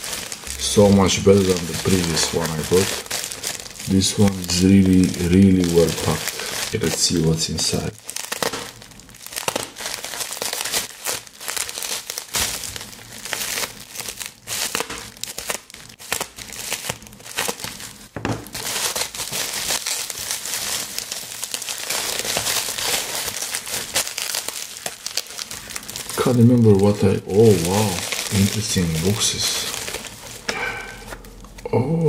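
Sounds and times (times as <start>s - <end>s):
packing material crinkling and tearing: 0.0s - 31.7s.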